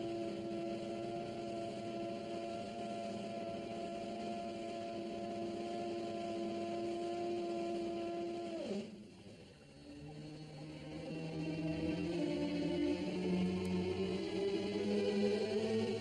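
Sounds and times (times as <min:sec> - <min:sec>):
crane winch hum: 0:00.0 - 0:16.0.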